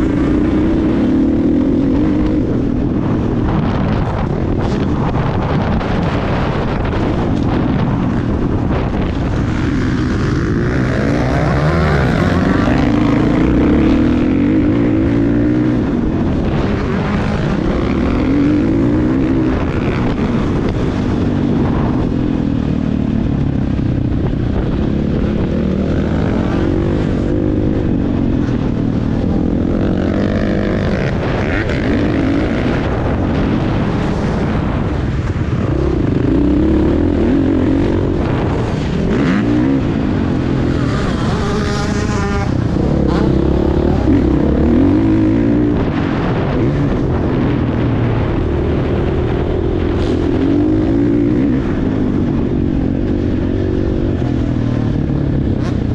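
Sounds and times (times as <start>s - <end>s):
motorcycle engine revving: 0.0s - 55.9s
wind on microphone: 0.0s - 55.9s.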